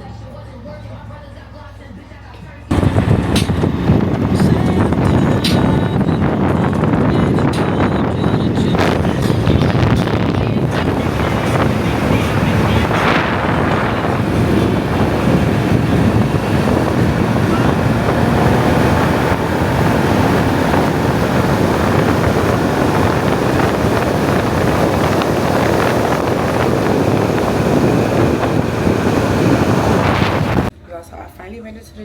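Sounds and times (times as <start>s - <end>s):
wind buffeting microphone: 2.7s - 30.7s.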